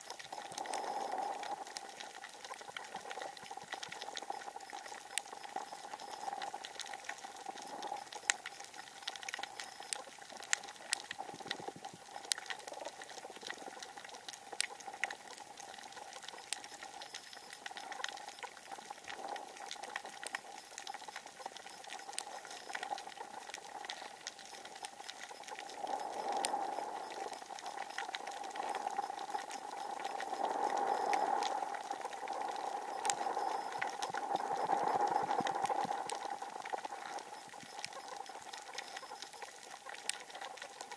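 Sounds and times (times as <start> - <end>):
snapping shrimp crackle: 0.0 - 40.9
steady underwater hum: 0.0 - 40.9.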